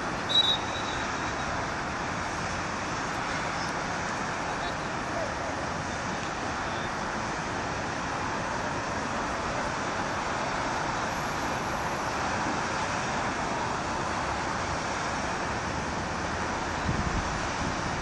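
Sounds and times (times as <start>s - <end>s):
distant road traffic: 0.0s - 18.0s.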